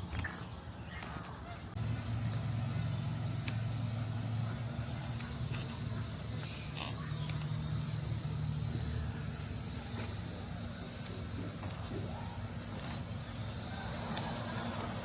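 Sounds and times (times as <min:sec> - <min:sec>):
low steady hum: 0:00.0 - 0:15.0
insects trilling: 0:00.3 - 0:15.0.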